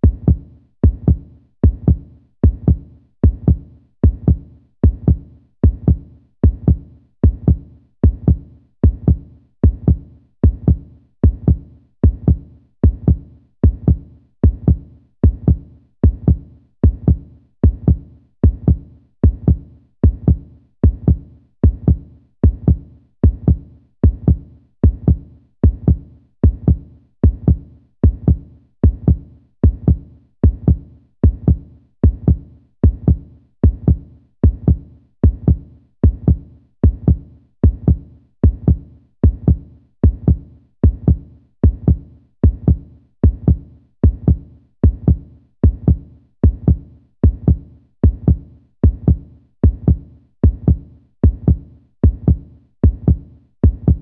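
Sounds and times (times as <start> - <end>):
heartbeat: 0.0 - 54.0.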